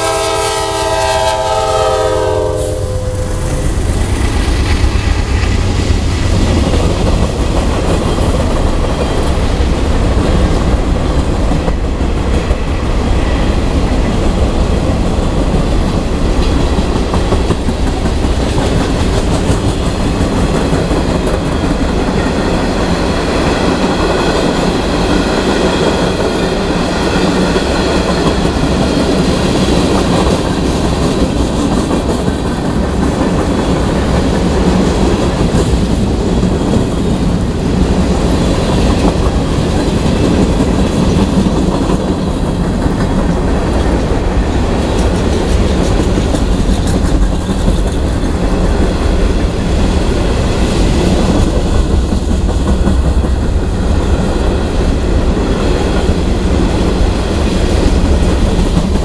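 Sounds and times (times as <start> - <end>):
steel wheels rumbling on rail: 0.0 - 59.0
clickety-clack over rail joints: 3.4 - 59.0.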